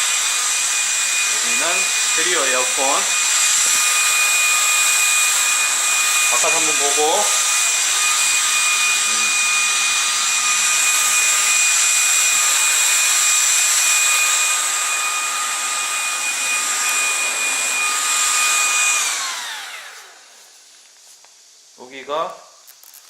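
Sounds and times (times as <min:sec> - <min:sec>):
vacuum motor spinning down: 0:00.0 - 0:20.3
stick vacuum whining: 0:00.0 - 0:20.4.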